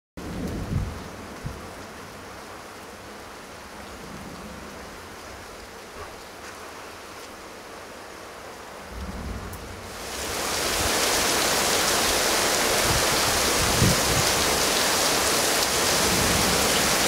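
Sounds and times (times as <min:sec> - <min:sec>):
rain falling: 0:00.2 - 0:17.0.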